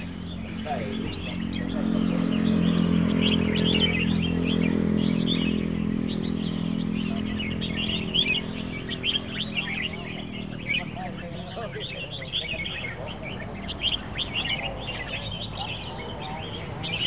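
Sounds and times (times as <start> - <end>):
songbirds chirping and singing: 0.0 - 17.0
vehicle engine humming: 0.0 - 17.0.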